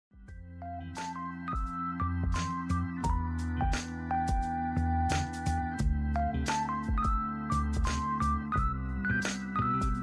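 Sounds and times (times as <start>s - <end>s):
background music: 0.2s - 10.0s.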